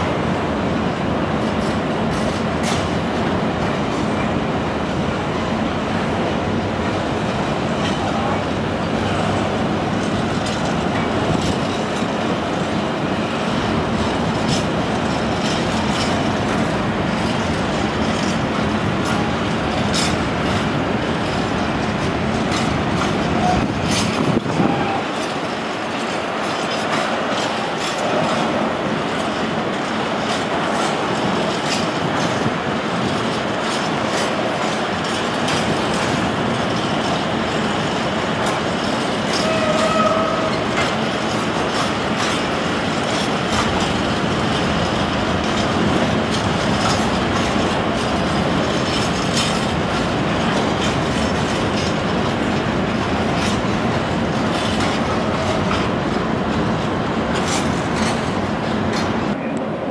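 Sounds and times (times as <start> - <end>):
train rolling on rails: 0.0 - 59.9
wheels clicking over rail joints: 0.1 - 4.4, 5.4 - 59.9
freight wagons rolling: 1.4 - 3.0, 7.8 - 59.9.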